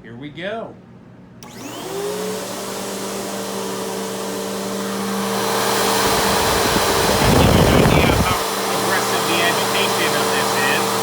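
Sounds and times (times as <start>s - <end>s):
upright vacuum cleaner running: 1.4s - 11.0s.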